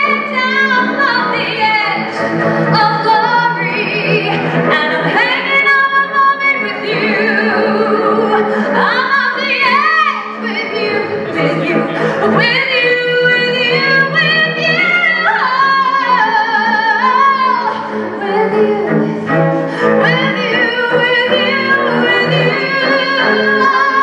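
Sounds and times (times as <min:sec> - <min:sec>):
bowed cello low notes: 0:00.0 - 0:24.0
woman singing pop song: 0:00.0 - 0:24.0.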